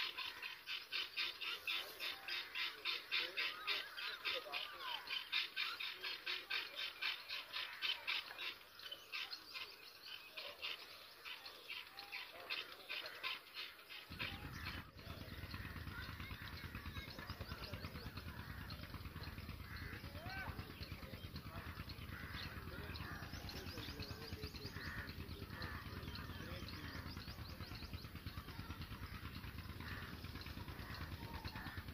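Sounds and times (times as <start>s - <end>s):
nestlings begging chirps: 0.0s - 31.9s.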